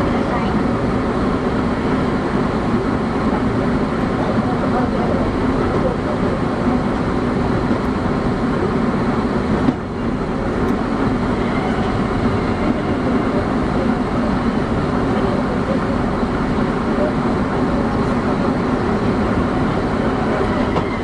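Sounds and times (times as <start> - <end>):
subway train rumbling on rails: 0.0 - 21.0.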